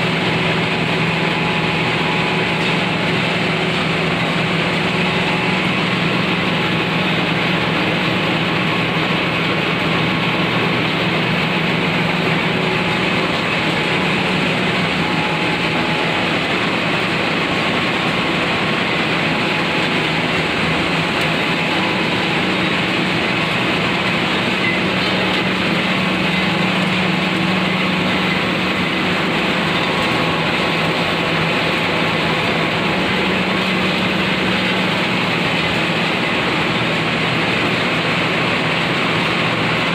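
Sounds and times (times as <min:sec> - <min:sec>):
grinding machine running: 0:00.0 - 0:39.9.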